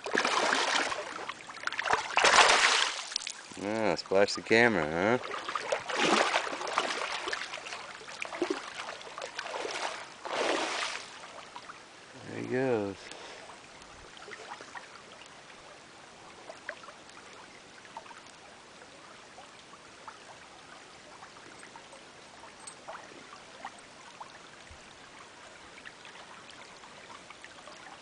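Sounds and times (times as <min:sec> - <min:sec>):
shallow creek flowing: 0:00.0 - 0:28.0
water drips and splashes: 0:00.0 - 0:28.0.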